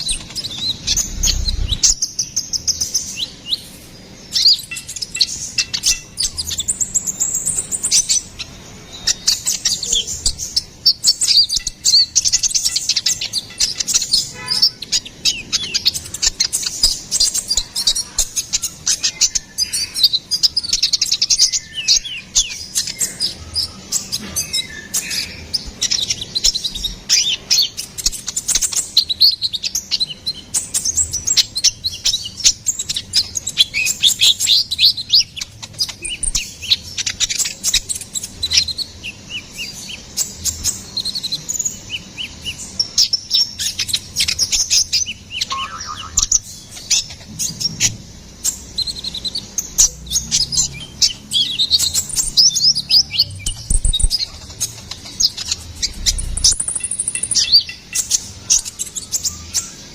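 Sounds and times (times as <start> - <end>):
songbird twittering: 0.0 - 59.9.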